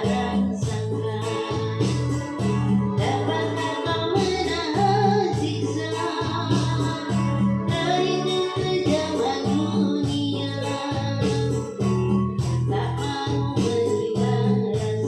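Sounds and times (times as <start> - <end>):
song with singing over bass beat: 0.0 - 15.0.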